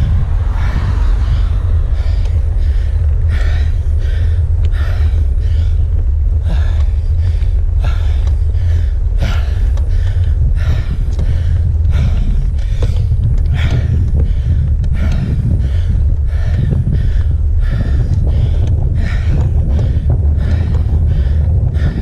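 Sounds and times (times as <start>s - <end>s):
person breathing hard: 0.0s - 22.0s
wind rumble on microphone: 0.0s - 22.0s.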